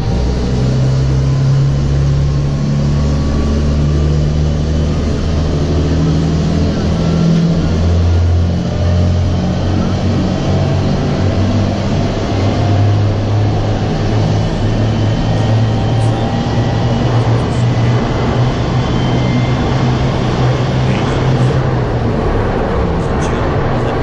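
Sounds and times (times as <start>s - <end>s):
diesel train running: 0.0s - 24.0s
low engine drone: 0.0s - 24.0s.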